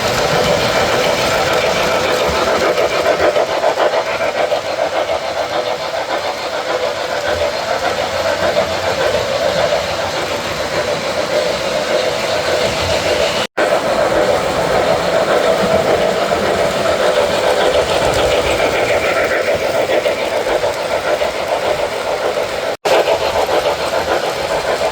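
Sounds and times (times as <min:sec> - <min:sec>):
model train running: 0:00.0 - 0:24.9.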